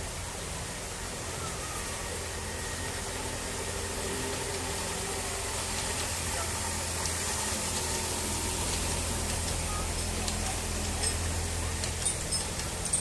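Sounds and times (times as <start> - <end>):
miniature locomotive engine running: 0.0 - 13.0.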